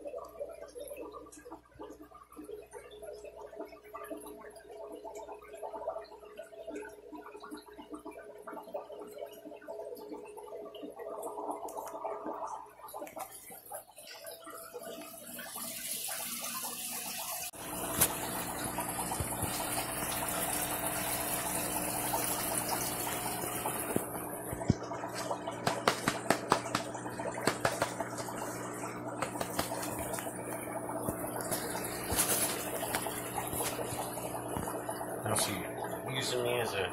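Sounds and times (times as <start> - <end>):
aquarium water gurgling: 0.0 - 36.9
pump hum: 0.0 - 36.9.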